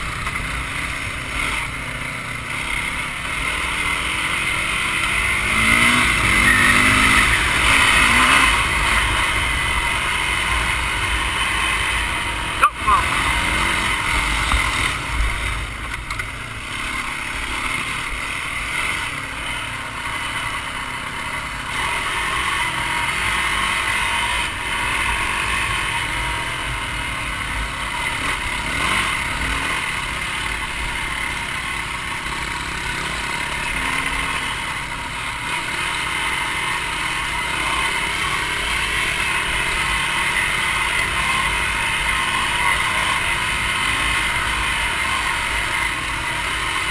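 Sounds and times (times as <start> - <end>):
dirt bike engine running: 0.0 - 46.9.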